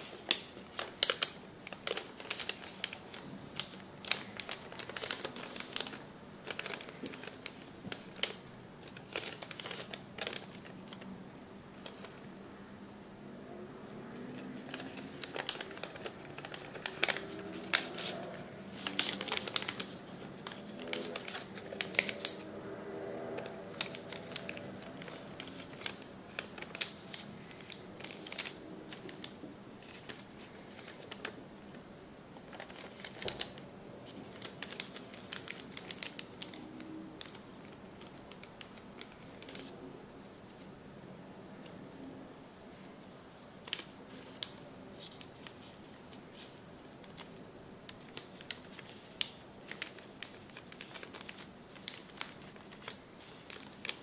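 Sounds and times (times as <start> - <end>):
paper crinkling and rustling: 0.0 - 11.1, 11.7 - 12.3, 13.9 - 31.8, 32.4 - 40.7, 42.4 - 54.0.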